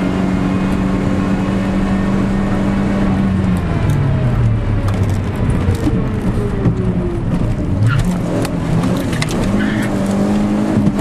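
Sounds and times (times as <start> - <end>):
car engine from inside cabin: 0.0 - 11.0.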